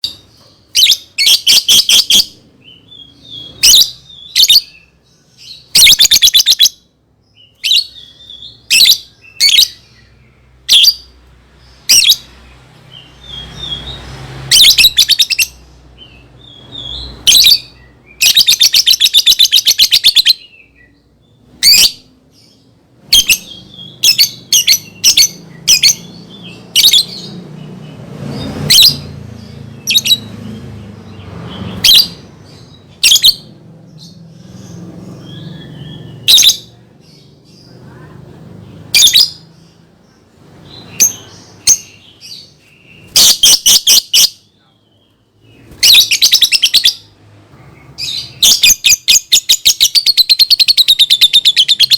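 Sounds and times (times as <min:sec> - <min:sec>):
bird shrill chirps: 0:00.0 - 0:11.1, 0:13.0 - 0:27.4, 0:31.1 - 0:38.0, 0:40.6 - 0:47.1, 0:47.8 - 0:51.9.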